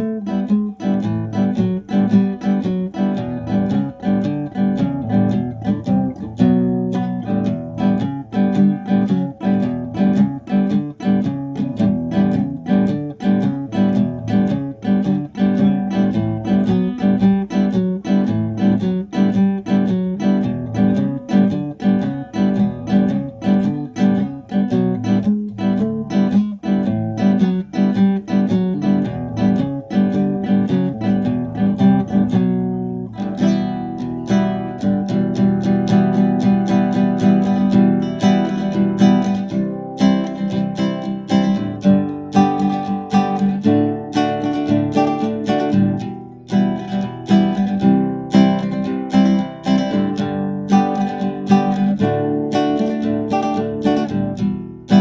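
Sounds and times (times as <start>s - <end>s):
classical guitar fingerstyle: 0.0s - 55.0s.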